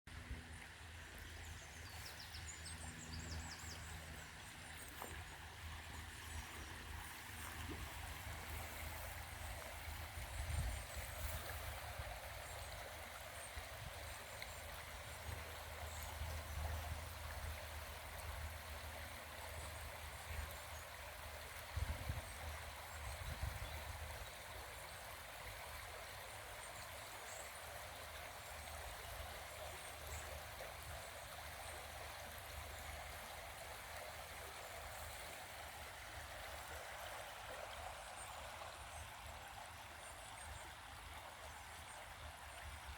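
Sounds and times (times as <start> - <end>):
running water rushing: 0.3 - 42.9.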